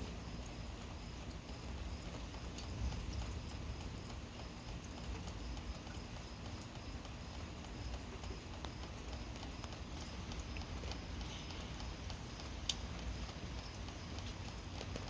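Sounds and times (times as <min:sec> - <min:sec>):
gentle rain falling: 0:00.0 - 0:15.0
drops ticking: 0:00.3 - 0:15.0.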